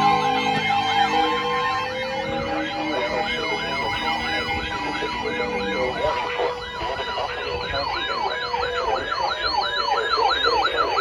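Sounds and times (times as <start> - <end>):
electronic siren warbling: 0.0 - 11.0.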